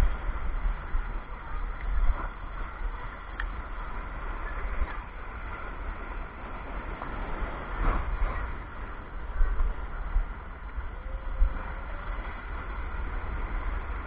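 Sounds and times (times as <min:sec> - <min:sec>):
surf washing against shore: 0:00.0 - 0:14.0
wind buffeting microphone: 0:00.0 - 0:14.0.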